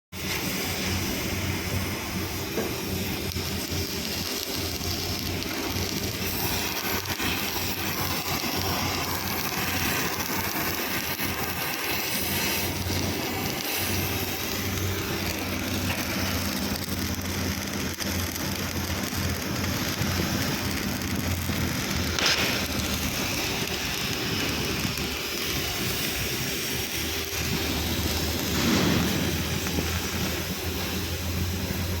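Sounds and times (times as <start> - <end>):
welding arc crackling: 0.2 - 32.0.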